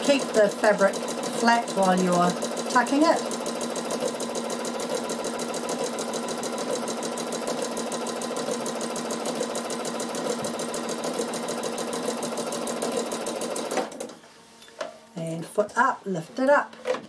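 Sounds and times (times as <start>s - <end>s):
sewing machine clattering: 0.0s - 14.1s.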